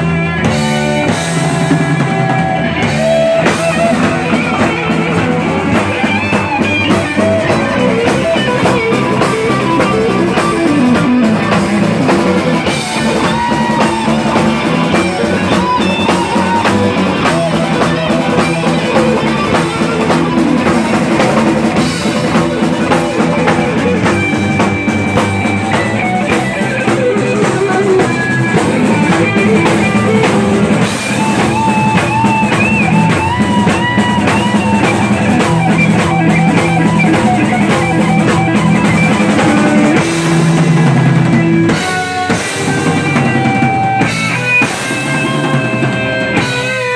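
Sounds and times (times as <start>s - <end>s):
bass guitar: 0.0s - 46.9s
drums: 0.0s - 46.9s
electric guitar lead: 0.0s - 46.9s.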